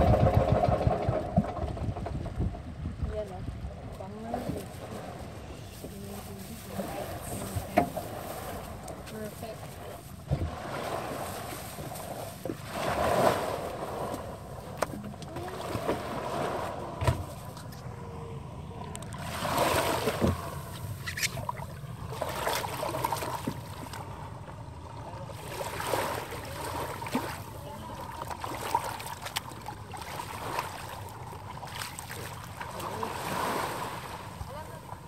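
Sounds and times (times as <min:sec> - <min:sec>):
small waves washing on beach: 0:03.0 - 0:35.0.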